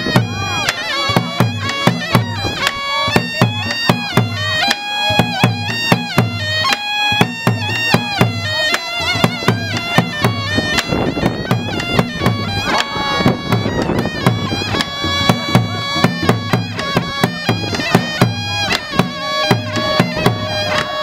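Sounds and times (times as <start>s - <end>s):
drum beats: 0.0s - 21.0s
shawm playing a melody: 0.0s - 21.0s.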